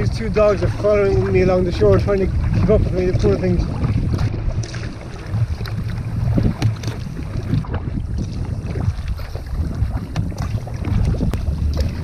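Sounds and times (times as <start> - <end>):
paddle strokes splashing: 0.0 - 12.0
wind rumbling on microphone: 0.0 - 12.0.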